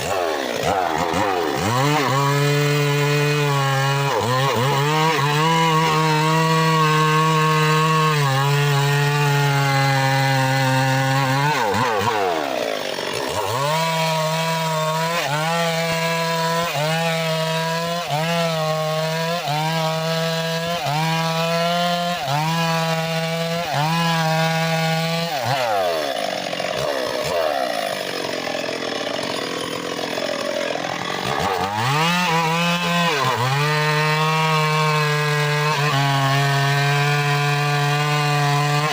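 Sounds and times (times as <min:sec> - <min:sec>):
engine-powered saw cutting wood: 0:00.0 - 0:38.9.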